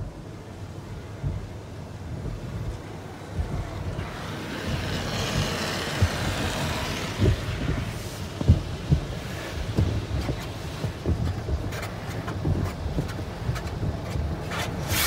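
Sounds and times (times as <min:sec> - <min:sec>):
water spraying on windshield: 0:00.0 - 0:15.0
dull thuds against car body: 0:02.1 - 0:15.0.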